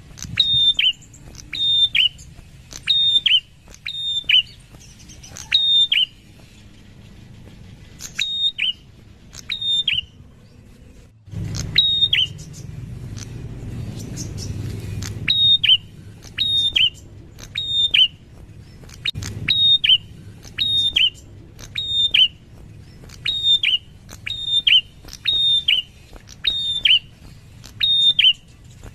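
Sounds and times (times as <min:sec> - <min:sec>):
low rumble: 0:00.0 - 0:26.4
bird singing whistled notes: 0:00.0 - 0:28.9.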